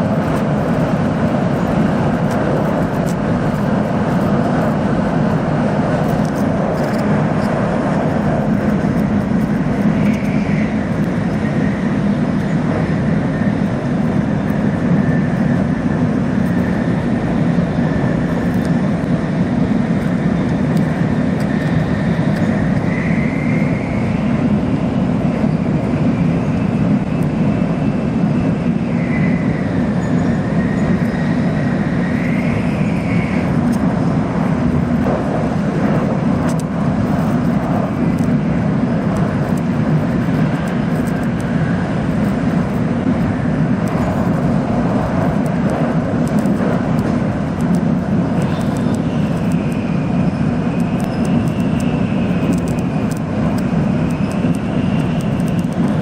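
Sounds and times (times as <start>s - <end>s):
faint high wavering whine: 0.0s - 56.0s
train rumble inside cabin: 0.0s - 56.0s.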